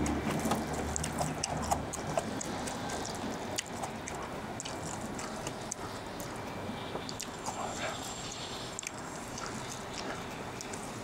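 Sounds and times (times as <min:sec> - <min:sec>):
chewing and lip-smacking: 0:00.0 - 0:11.0
low hum: 0:00.0 - 0:11.0.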